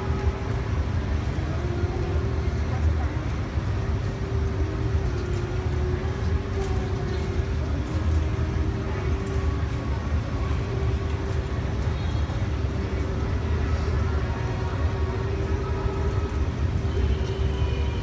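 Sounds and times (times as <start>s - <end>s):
constant hum: 0.0s - 18.0s
street traffic rumble: 0.0s - 18.0s.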